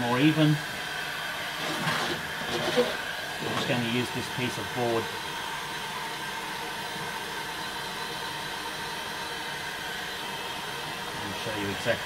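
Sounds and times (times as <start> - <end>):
heat gun blowing hot air: 0.0 - 12.0.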